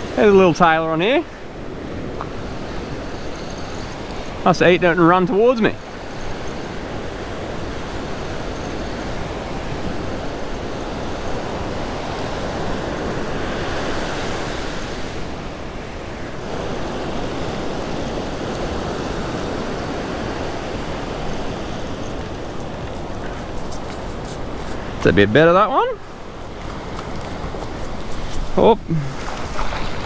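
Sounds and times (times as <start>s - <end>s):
ocean waves breaking: 0.0s - 30.0s
wind buffeting microphone: 0.0s - 30.0s.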